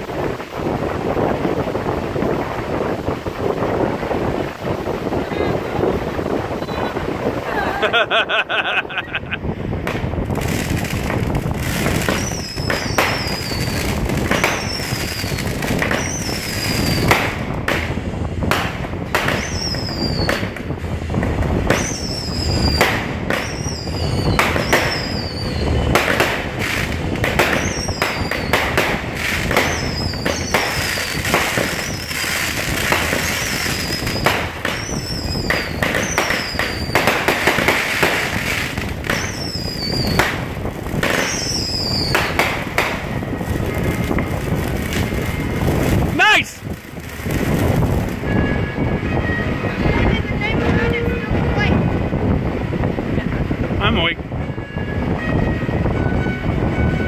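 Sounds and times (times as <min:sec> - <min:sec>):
fireworks falling whistles: 0:00.0 - 0:07.4, 0:09.8 - 0:50.1
fireworks pops and bangs: 0:00.0 - 0:07.5, 0:09.4 - 0:48.6.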